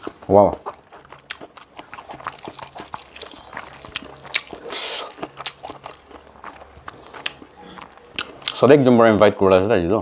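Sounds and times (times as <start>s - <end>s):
wet chewing and mouth clicks: 0.0s - 8.7s.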